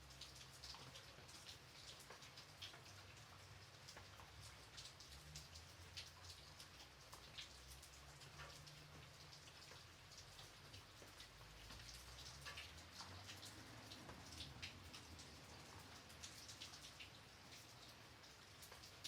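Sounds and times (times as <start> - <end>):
rain hiss: 0.0 - 19.0
raindrops ticking: 0.0 - 19.0.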